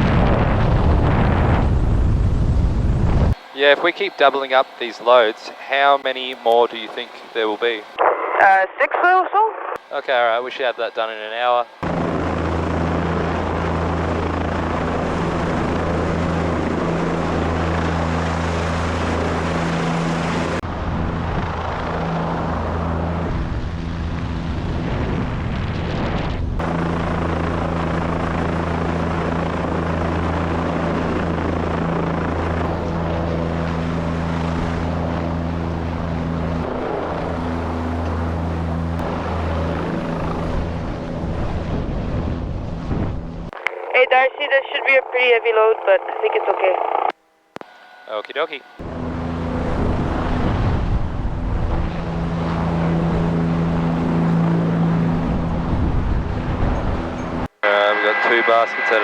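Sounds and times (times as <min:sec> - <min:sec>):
helicopter rotor and engine hum: 0:00.0 - 0:59.0.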